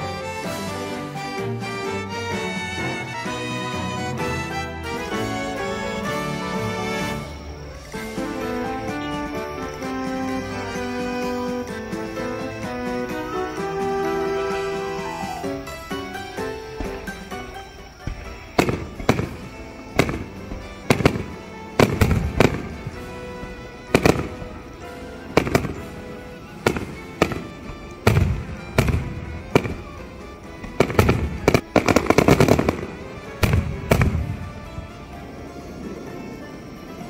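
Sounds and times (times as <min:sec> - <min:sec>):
background music: 0:00.0 - 0:37.0
fireworks bangs: 0:03.0 - 0:37.0.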